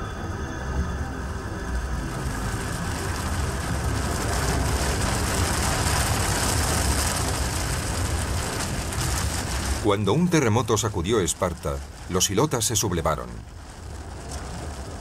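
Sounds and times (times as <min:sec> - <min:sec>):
deep earthquake rumble: 0:00.0 - 0:15.0.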